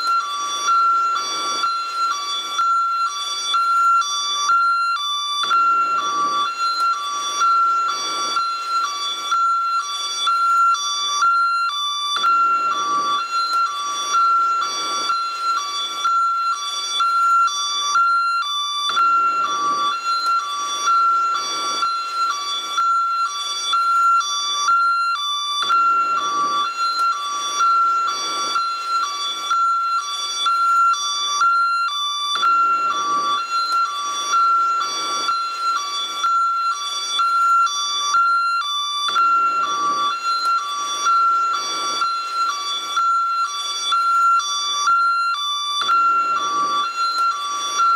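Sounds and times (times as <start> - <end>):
two-tone ambulance siren: 0.0 - 47.9.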